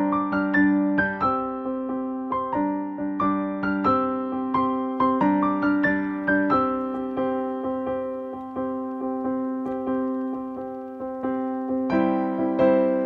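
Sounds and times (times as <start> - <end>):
soft piano notes: 0.0 - 13.0.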